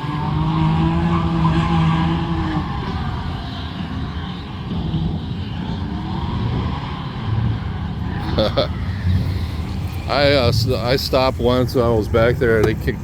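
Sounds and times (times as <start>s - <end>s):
car engines revving high: 0.0s - 13.0s
tires squealing: 0.0s - 13.0s.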